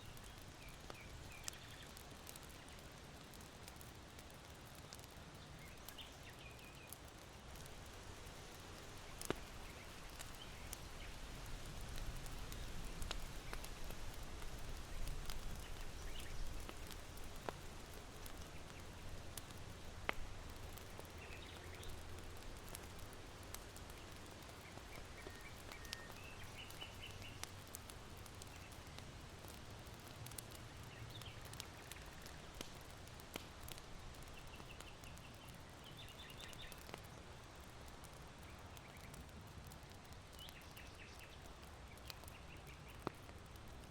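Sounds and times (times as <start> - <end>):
small birds chirping: 0.0 - 39.3, 40.0 - 43.8
charcoal fire crackling and popping: 0.0 - 43.9.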